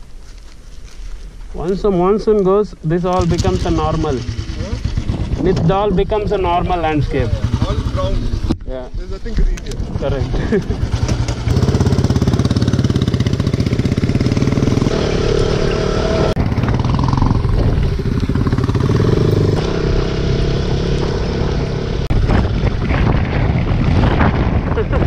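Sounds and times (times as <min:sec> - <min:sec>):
motorcycle engine running: 0:03.2 - 0:24.7.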